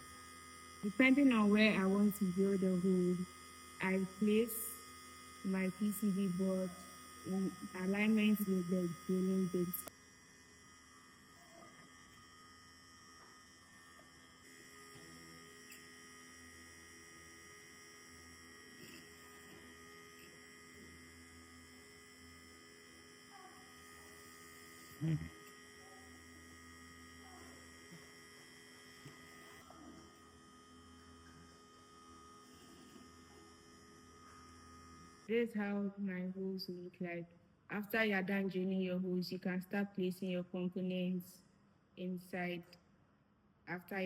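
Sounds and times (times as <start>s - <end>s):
bench drill motor humming: 0.0s - 35.5s.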